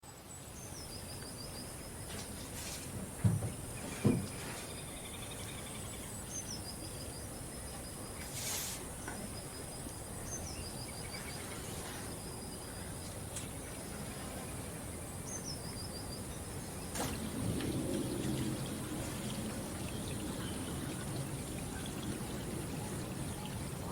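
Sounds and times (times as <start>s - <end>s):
outdoor hiss: 0.1s - 23.9s.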